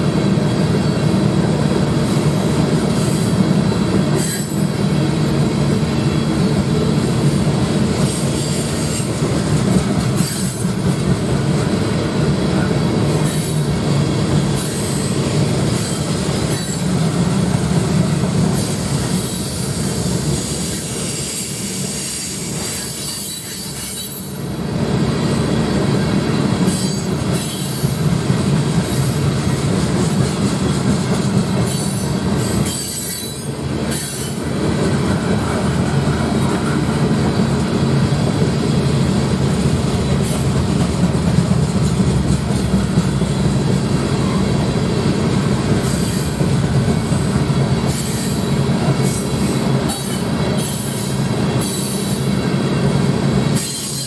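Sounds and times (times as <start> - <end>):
freight train passing: 0.0 - 54.0
steel wheels rattling on rails: 0.0 - 54.0.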